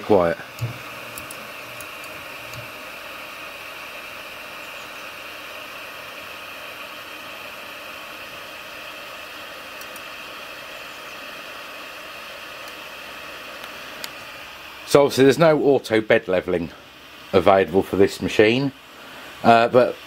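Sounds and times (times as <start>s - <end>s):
cooling fan hissing: 0.0s - 20.0s.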